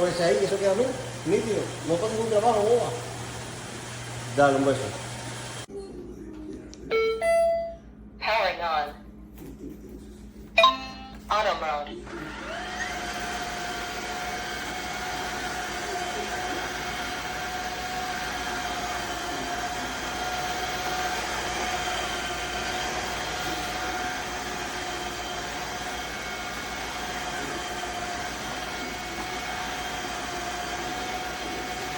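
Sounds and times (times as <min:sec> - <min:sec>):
vacuum cleaner motor whining: 0:00.0 - 0:05.7, 0:12.0 - 0:31.9.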